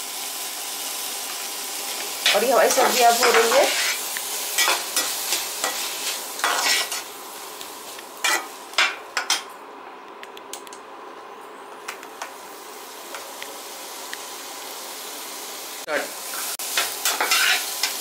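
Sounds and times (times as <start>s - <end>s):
vegetables sizzling in oil: 0.0s - 9.6s, 12.2s - 18.0s.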